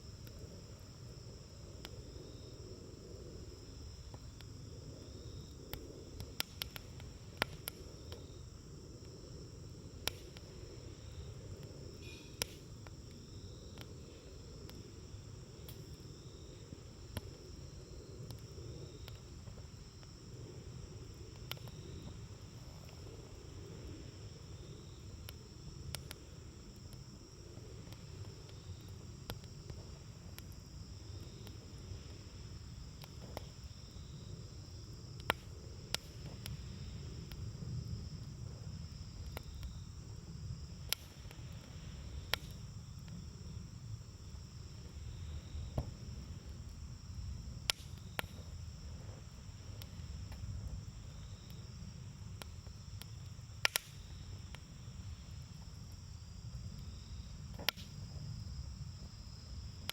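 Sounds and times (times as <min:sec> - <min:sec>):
campfire crackling and popping: 0:00.0 - 0:59.9
crickets chirring: 0:00.0 - 0:59.9.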